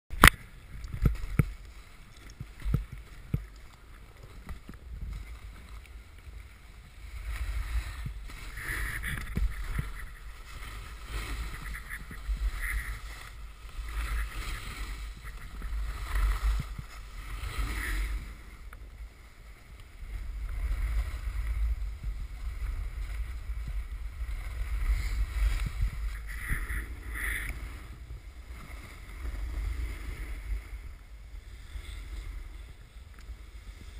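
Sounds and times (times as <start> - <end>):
sliding on packed snow: 0.1 - 33.9
wind on camera microphone: 0.1 - 33.9.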